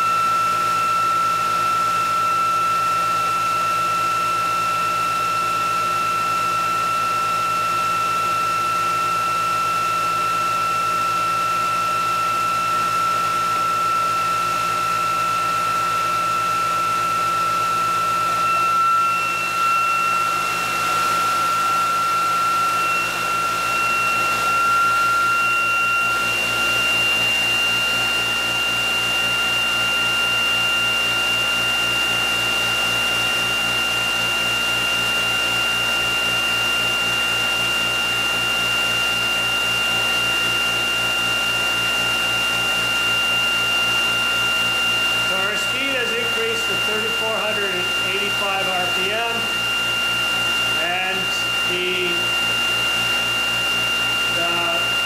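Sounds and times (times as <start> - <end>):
electric motor high whine: 0.0 - 55.0.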